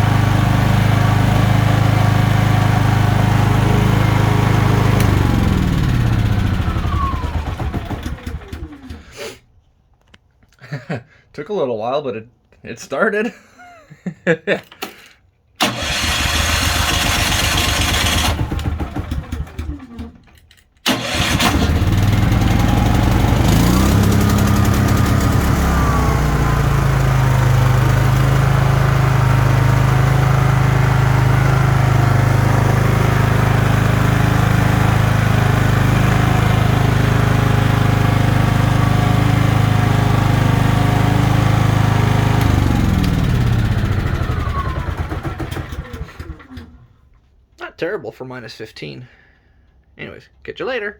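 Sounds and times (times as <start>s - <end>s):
generator engine starting and running: 0.0s - 9.4s, 15.6s - 47.2s.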